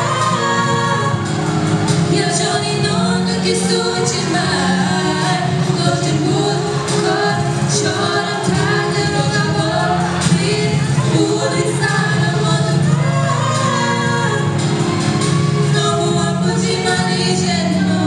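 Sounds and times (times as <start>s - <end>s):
accompanying music: 0.0s - 18.0s
women singing a duet: 0.0s - 18.0s.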